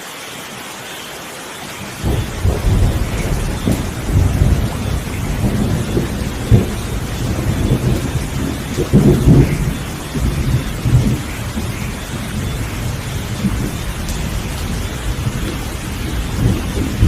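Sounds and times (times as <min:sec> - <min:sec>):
heavy rain: 0:00.0 - 0:17.0
rolling thunder with cracks: 0:02.0 - 0:17.0.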